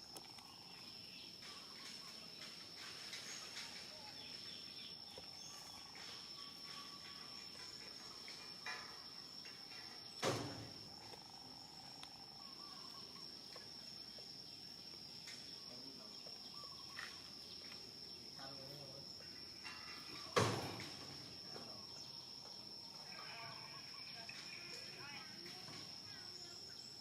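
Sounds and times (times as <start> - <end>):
high-pitched insect trill: 0.0 - 27.0.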